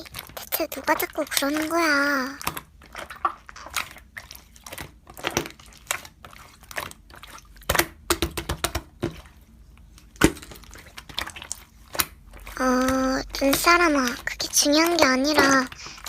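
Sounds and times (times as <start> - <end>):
slime squished by hand: 0.0 - 16.0.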